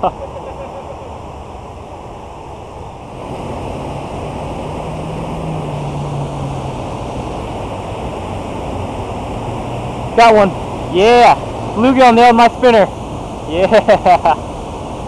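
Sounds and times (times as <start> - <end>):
water rushing through culvert: 1.0 - 15.0.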